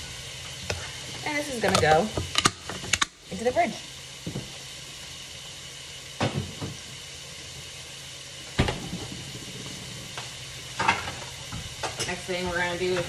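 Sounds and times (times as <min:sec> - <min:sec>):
beef sizzling in a pan: 0:00.0 - 0:13.0.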